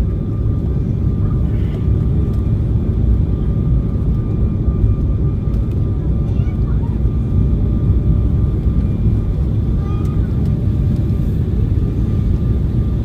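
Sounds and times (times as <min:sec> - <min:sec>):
airliner engine rumble: 0:00.0 - 0:13.0
faint engine whine: 0:00.0 - 0:13.0.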